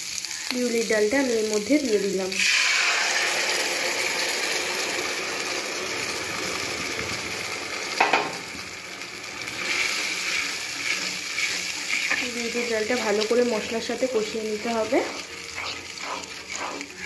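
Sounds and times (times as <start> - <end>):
lentils sizzling in hot oil: 0.0 - 17.0.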